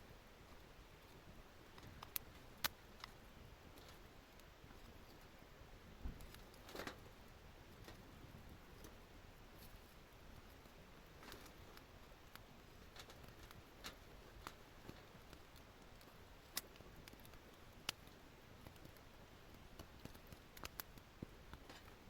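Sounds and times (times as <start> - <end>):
campfire crackling: 0.2 - 22.0
fire popping: 1.1 - 5.4, 6.0 - 22.0.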